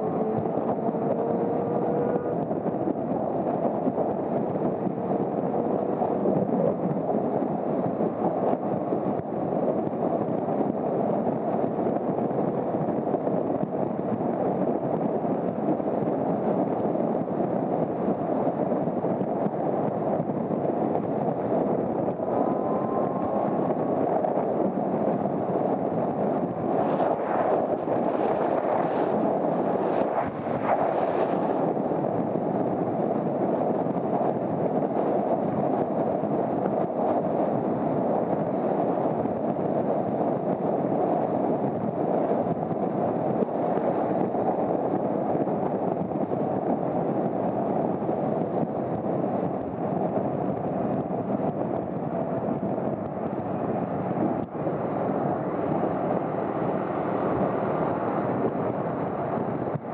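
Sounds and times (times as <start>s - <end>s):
wind and road noise: 0.0s - 59.9s
wind buffeting microphone: 0.0s - 59.9s.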